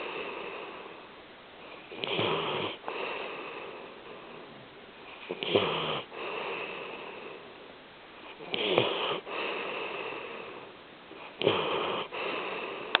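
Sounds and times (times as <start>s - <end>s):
soft breathing: 0.0s - 13.0s
pet snoring: 1.6s - 7.5s, 8.2s - 13.0s.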